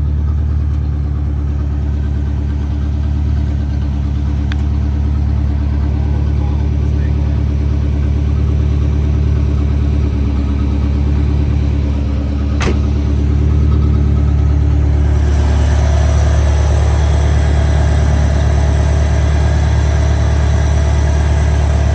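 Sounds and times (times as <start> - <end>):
car engine idling roughly: 0.0 - 21.9.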